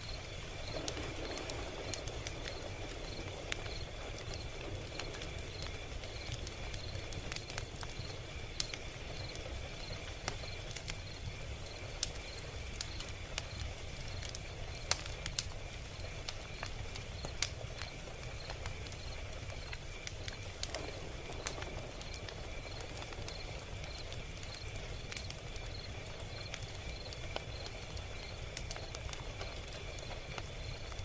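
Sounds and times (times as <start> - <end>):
log fire crackling: 0.0 - 31.0.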